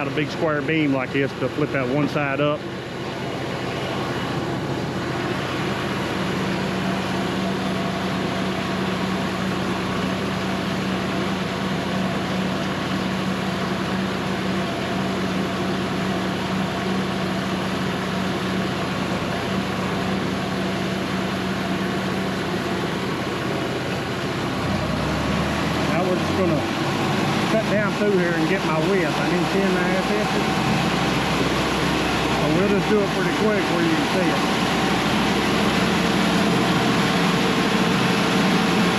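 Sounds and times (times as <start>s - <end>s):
diesel engine running: 0.0s - 38.9s
steady hum: 0.0s - 38.9s.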